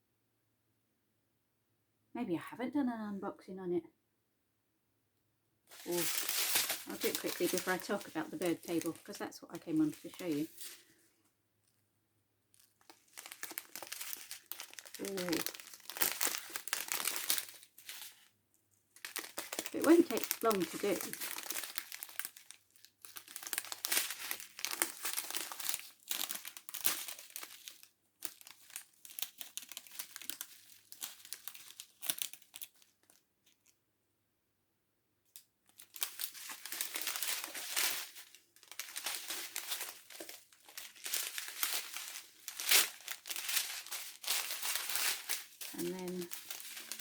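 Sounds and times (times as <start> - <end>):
plastic packaging crinkling and tearing: 5.7 - 11.0, 12.5 - 33.8, 35.6 - 47.0.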